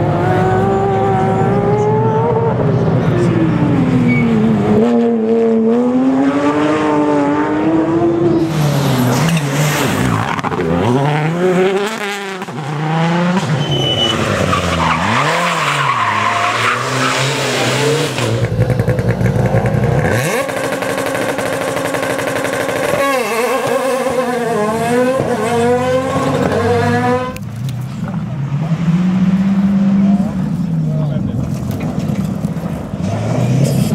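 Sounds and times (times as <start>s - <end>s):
rally car engines revving: 0.0s - 33.9s.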